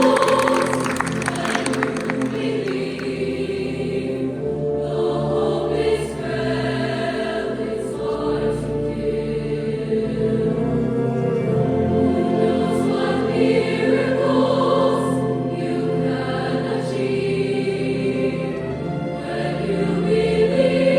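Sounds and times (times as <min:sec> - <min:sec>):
choir singing in harmony: 0:00.0 - 0:20.9.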